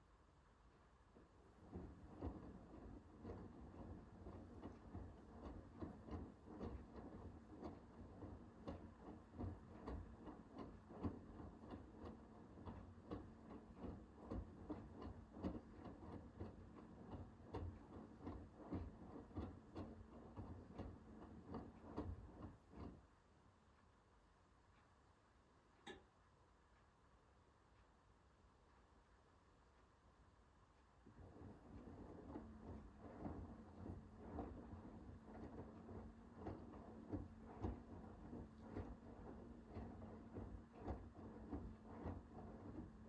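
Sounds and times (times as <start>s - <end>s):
washing machine motor hum: 0.2s - 24.1s, 30.6s - 43.0s.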